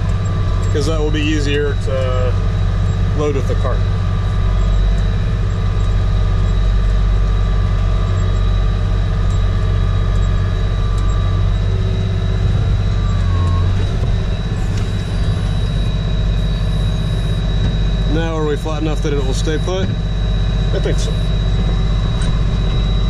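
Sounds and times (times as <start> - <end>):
thin high whine: 0.0 - 23.0
tractor engine drone: 0.0 - 23.0.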